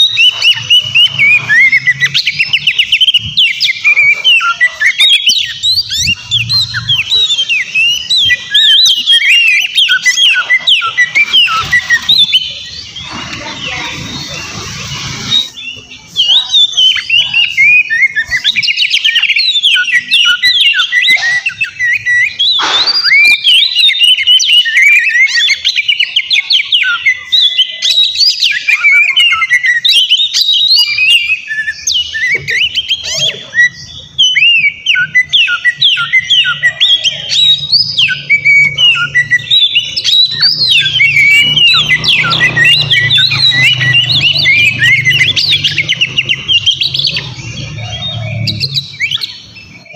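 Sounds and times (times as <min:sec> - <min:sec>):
bird singing whistles and chirps: 0:00.0 - 0:49.9.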